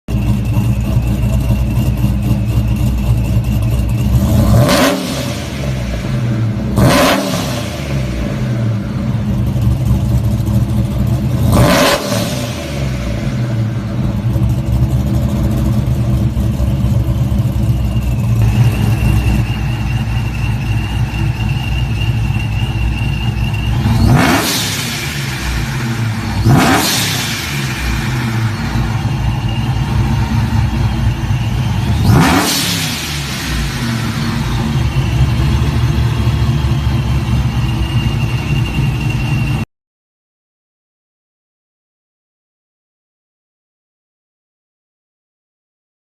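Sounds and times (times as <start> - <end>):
truck engine idling and revving: 0.1 - 39.7.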